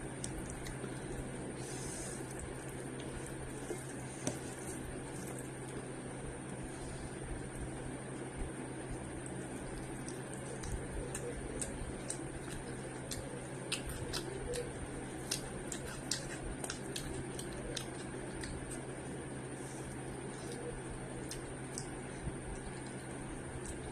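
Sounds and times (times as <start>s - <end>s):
steady background hum: 0.0s - 23.9s
wet chewing smacks: 0.1s - 6.0s, 8.9s - 19.0s, 19.8s - 23.9s.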